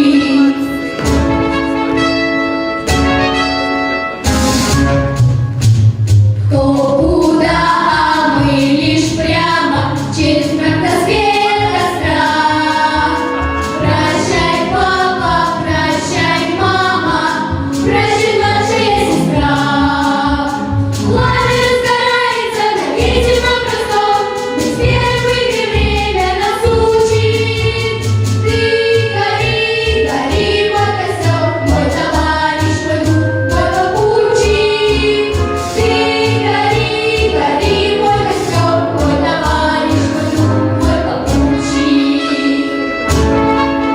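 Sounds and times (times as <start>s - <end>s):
instrumental accompaniment: 0.0s - 43.9s
choir singing: 6.7s - 43.1s.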